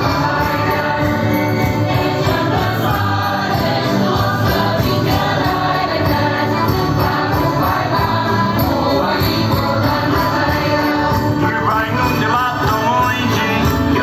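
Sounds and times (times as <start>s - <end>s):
group of voices singing: 0.0s - 14.0s
lively folk music: 0.0s - 14.0s.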